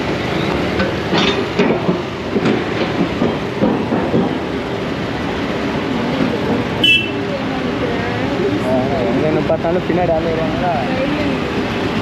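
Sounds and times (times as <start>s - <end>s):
motorcycles rumbling slowly: 0.0s - 12.0s.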